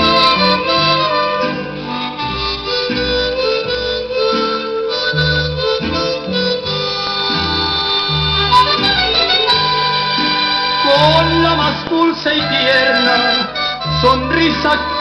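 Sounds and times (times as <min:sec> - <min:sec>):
mariachi music from speakers: 0:00.0 - 0:15.0.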